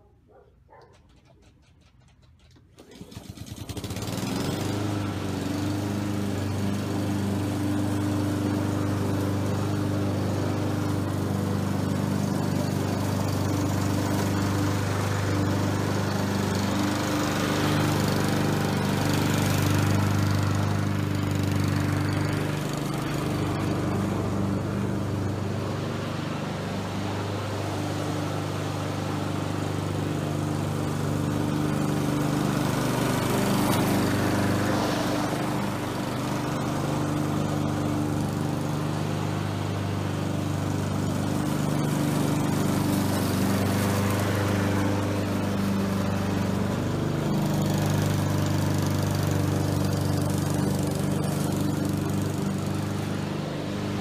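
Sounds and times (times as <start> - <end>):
lawn mower pull start: 0.6 - 54.0
lawn mower engine running: 0.7 - 54.0.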